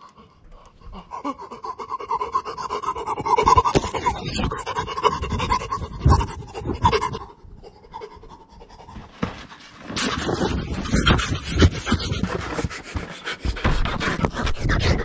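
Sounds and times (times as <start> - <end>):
person panting hard: 0.0 - 15.0.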